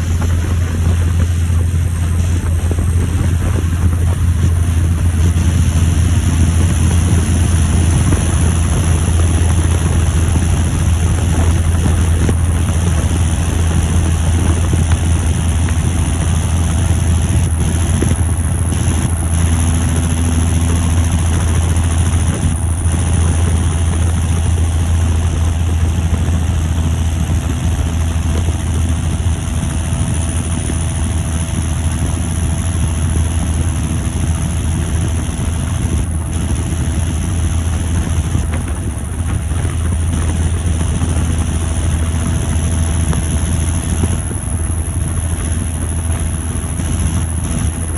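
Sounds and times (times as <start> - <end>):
tractor diesel engine drone: 0.0 - 47.9.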